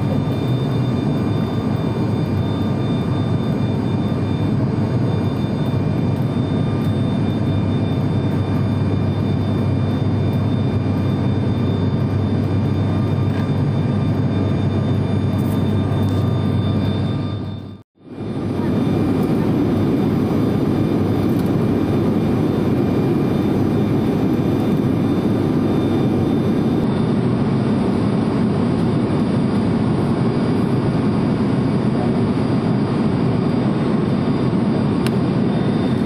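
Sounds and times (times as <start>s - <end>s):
airplane cabin engine drone: 0.0s - 36.0s
faint high whines: 0.0s - 36.0s.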